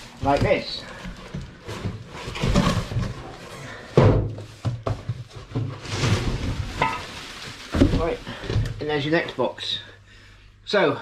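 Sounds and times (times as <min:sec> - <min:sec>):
cardboard scraping and rustling: 0:00.0 - 0:09.3.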